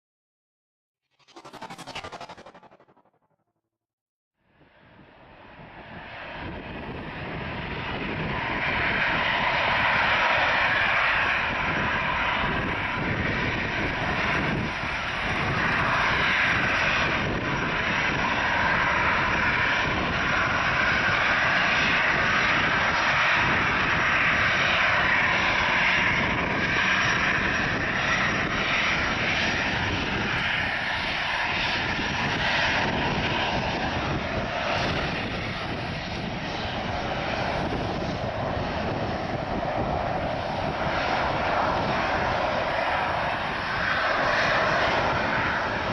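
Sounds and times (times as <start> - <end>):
jet engines at takeoff power: 1.1 - 3.4, 4.5 - 45.9.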